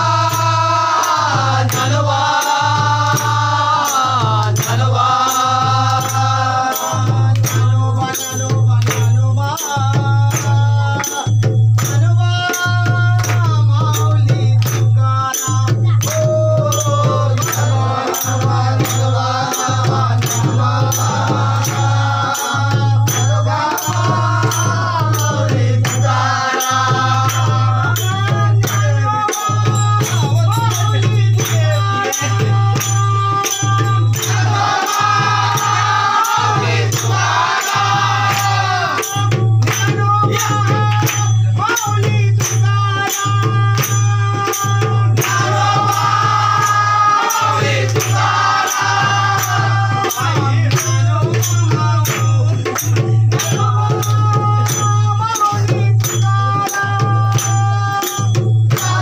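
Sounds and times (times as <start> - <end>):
rattling percussion beat: 0.0 - 59.0
voices singing: 0.0 - 59.0.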